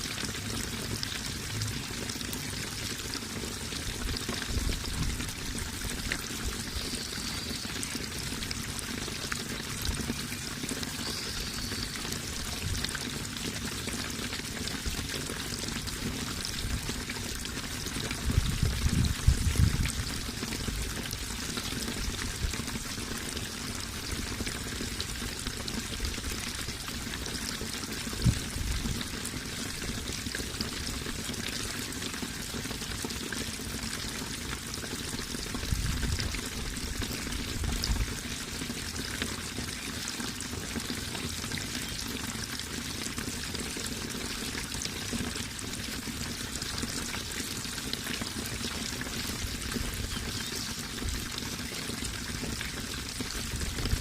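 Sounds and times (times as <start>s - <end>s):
deep water gushes: 0.0s - 54.0s
water running and splashing: 0.0s - 54.0s.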